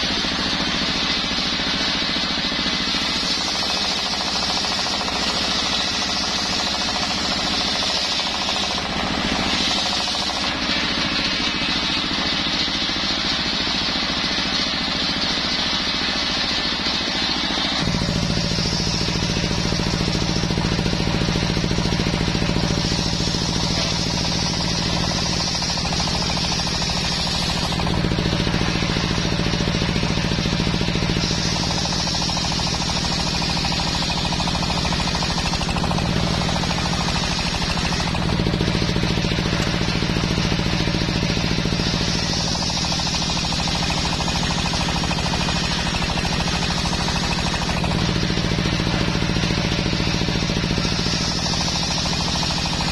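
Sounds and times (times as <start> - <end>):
circular saw cutting wood: 0.0 - 52.9
engine running: 0.0 - 52.9.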